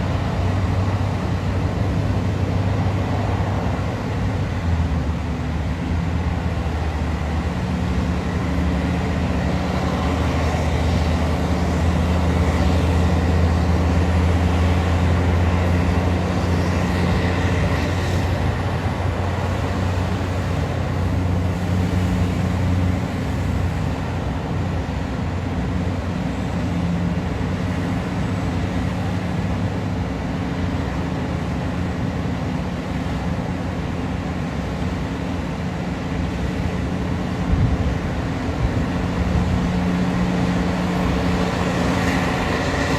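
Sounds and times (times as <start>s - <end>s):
large diesel engine droning: 0.0s - 42.9s.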